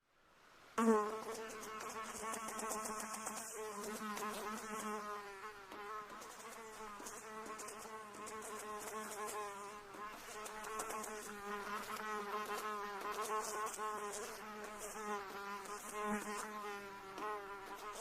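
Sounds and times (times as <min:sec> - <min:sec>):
buzzing flying insect: 0:00.8 - 0:18.0.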